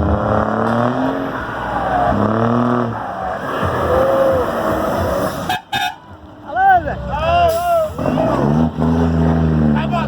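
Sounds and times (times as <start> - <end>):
truck diesel engine revving: 0.0 - 5.5, 6.9 - 10.0.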